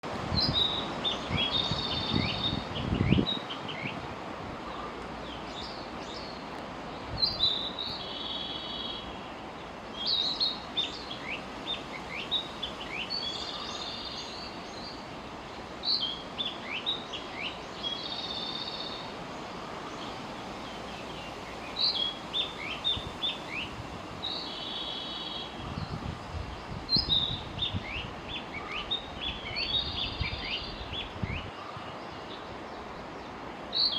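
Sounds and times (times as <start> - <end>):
steady background noise: 0.0 - 33.9
bird singing: 0.4 - 4.0, 4.6 - 33.9.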